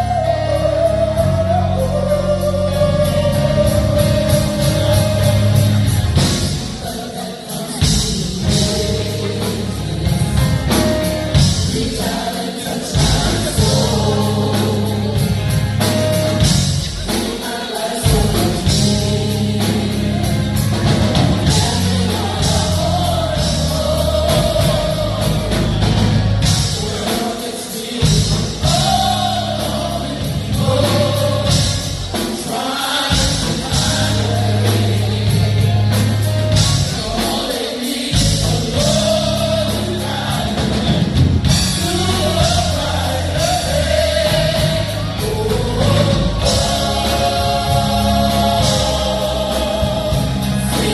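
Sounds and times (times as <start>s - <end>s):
band with bass and drums: 0.0s - 50.9s
gospel vocal group singing: 0.0s - 50.9s.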